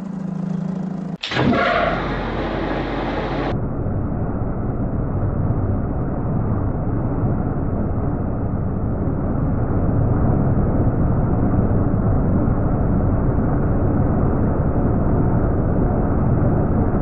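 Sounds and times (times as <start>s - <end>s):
slowed lathe low rumble: 0.0s - 17.0s.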